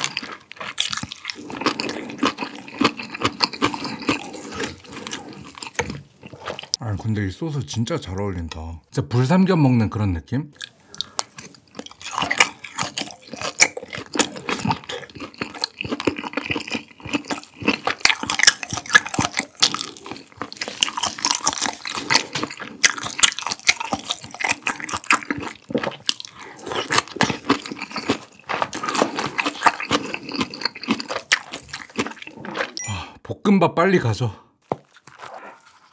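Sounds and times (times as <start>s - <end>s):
wet chewing: 0.0s - 6.8s, 10.6s - 32.9s, 34.6s - 35.9s.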